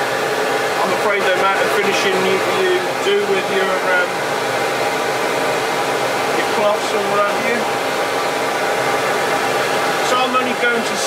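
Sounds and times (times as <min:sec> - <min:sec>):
dust extractor running: 0:00.0 - 0:11.0.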